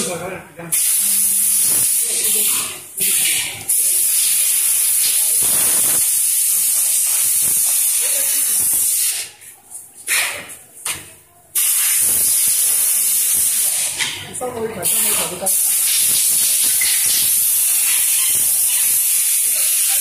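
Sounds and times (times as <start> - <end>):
loud air hiss: 0.7 - 9.3, 11.6 - 14.0, 14.8 - 20.0.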